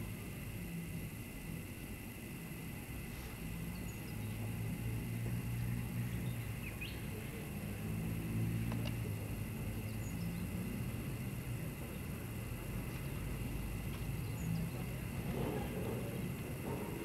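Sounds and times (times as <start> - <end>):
locomotive diesel engine running: 0.0 - 17.0.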